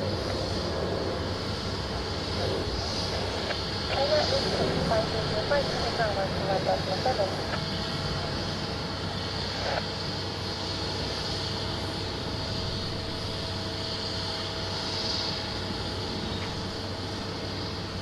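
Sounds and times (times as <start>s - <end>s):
jet engine running: 0.0s - 18.0s.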